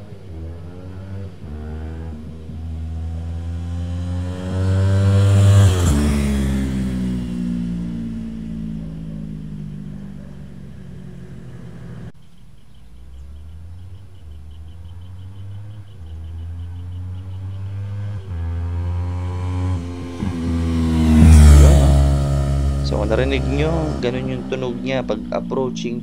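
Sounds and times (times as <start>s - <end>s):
motorcycle engine flyby: 0.0s - 26.0s.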